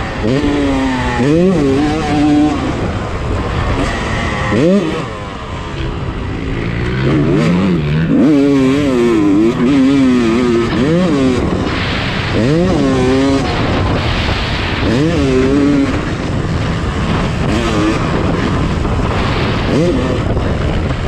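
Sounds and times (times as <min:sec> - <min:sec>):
dirt bike engine revving: 0:00.0 - 0:21.0
steady rush of noise: 0:00.0 - 0:21.0.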